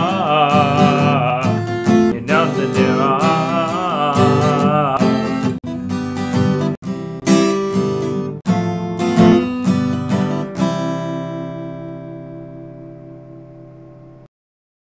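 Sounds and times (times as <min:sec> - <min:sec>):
acoustic guitar strumming: 0:00.0 - 0:14.3.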